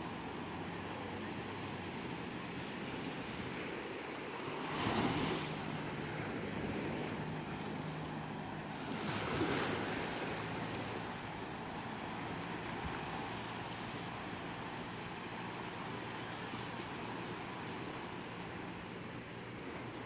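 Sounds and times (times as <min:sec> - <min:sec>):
waves washing on sandy beach: 0:00.0 - 0:20.0.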